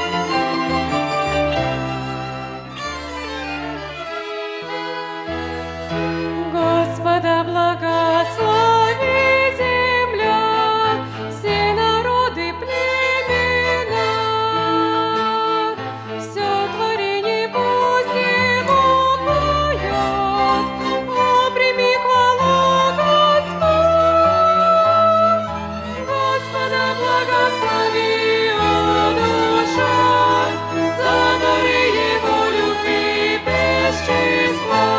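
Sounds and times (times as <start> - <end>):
string orchestra playing a hymn: 0.0 - 34.9.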